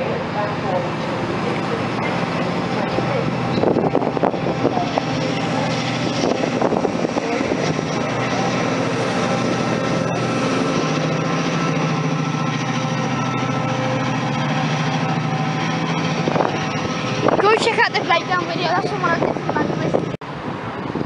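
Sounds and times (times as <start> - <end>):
diesel locomotive engine drone: 0.0 - 21.0
train coaches rolling past: 0.0 - 21.0.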